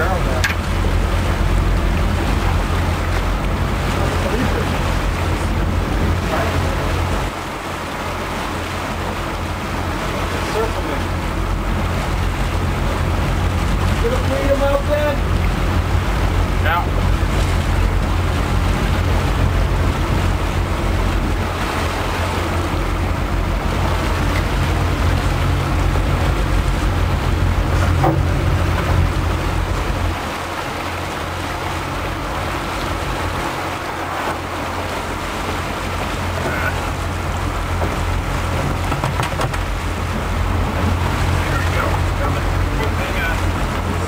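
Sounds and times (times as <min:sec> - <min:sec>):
boat engine droning: 0:00.0 - 0:44.0
water washing around hull: 0:00.0 - 0:44.0.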